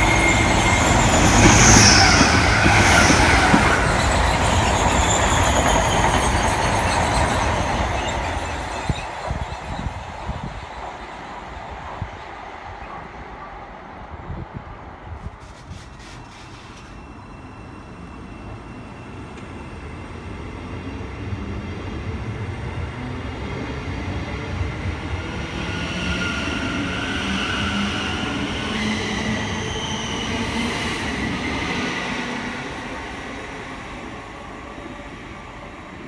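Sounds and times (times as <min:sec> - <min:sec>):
rumble of train wheels: 0:00.0 - 0:36.0.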